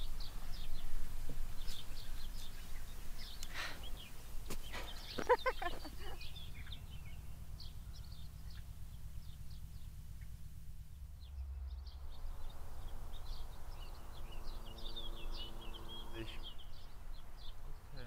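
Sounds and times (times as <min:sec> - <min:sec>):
faint steady hum: 0:00.0 - 0:17.9
low outdoor rumble: 0:00.0 - 0:18.0
small birds chirping: 0:00.0 - 0:18.0.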